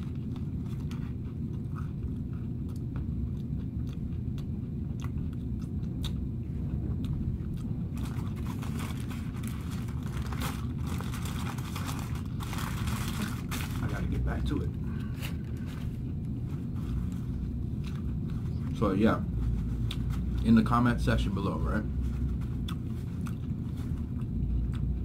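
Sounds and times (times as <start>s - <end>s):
chewing crispy food: 0.0s - 14.6s, 15.3s - 20.8s, 22.0s - 25.0s
low rumble: 4.0s - 25.0s.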